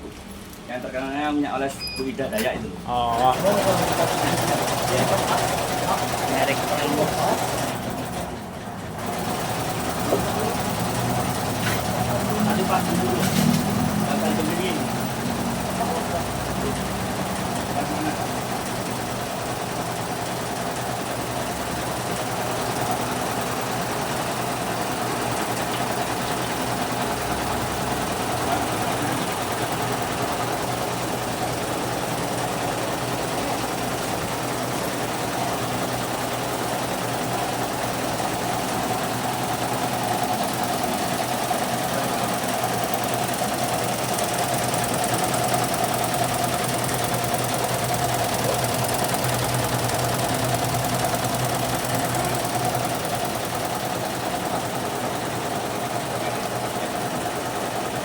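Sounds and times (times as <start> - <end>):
embroidery machine stitching: 3.1 - 58.0.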